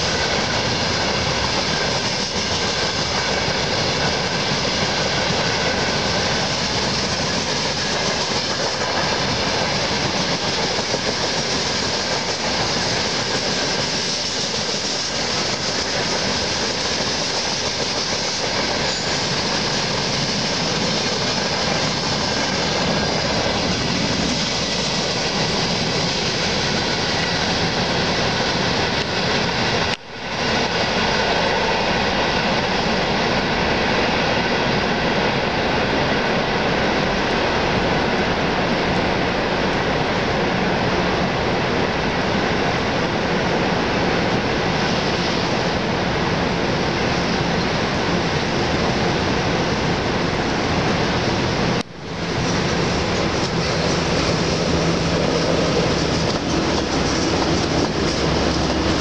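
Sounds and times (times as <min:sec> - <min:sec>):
train wheels rumbling and rattling: 0:00.0 - 0:59.0.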